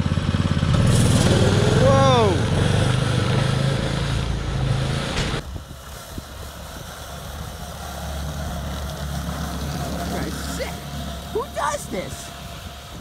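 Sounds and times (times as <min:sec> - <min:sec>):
mini snowmobile engine running: 0:00.0 - 0:13.0.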